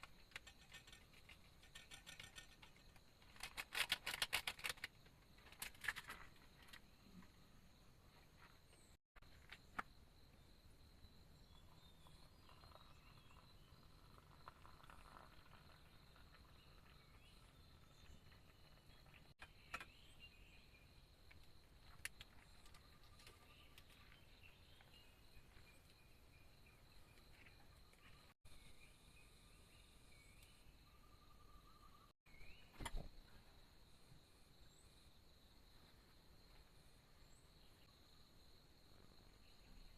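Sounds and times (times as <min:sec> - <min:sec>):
insects buzzing and chirping: 0:07.7 - 0:39.9.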